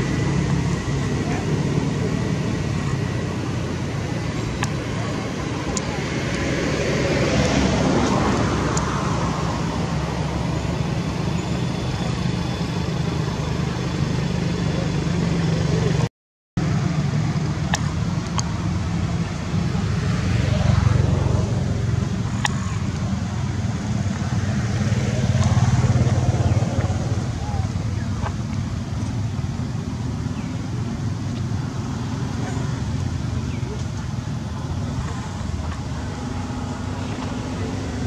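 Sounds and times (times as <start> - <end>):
low motor rumble: 0.0 - 38.0.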